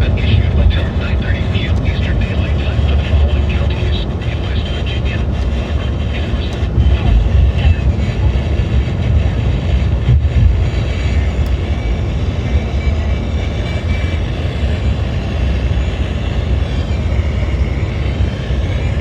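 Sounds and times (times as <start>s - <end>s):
low rumbling noise: 0.0s - 19.0s.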